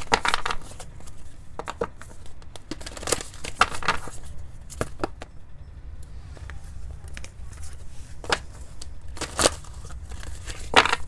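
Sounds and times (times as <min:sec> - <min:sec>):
cards being shuffled: 0:00.0 - 0:05.3, 0:06.3 - 0:11.0.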